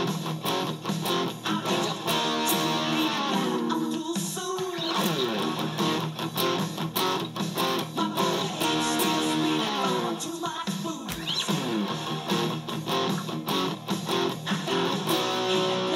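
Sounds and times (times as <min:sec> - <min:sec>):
electric guitar played with pick: 0:00.0 - 0:10.4, 0:11.1 - 0:15.9.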